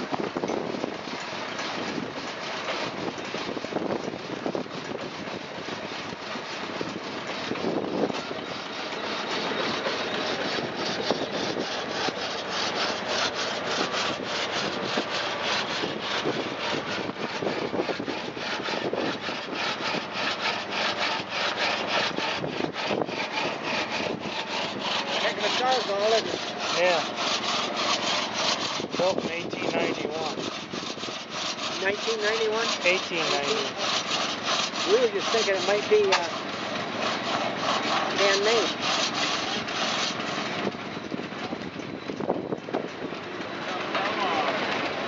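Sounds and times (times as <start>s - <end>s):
drag saw rasping through log: 0.0s - 45.0s.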